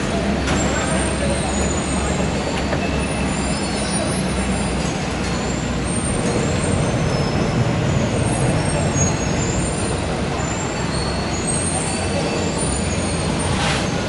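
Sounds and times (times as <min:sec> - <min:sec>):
low mechanical rumble of cable car: 0:00.0 - 0:14.0.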